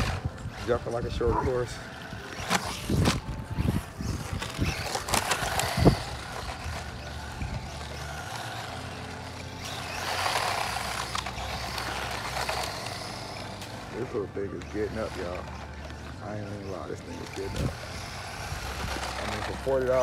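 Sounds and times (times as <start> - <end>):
toy truck motor and tyres: 0.0 - 20.0.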